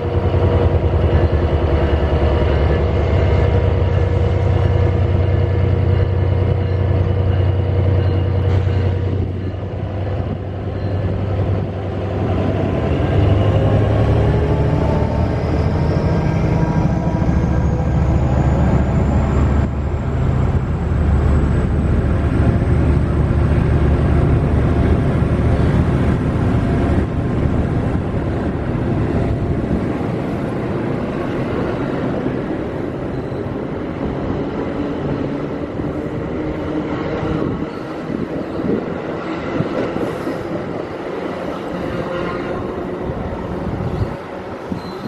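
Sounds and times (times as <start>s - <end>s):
locomotive engine drone: 0.0s - 45.0s
wheels rumbling on rail: 0.0s - 45.0s.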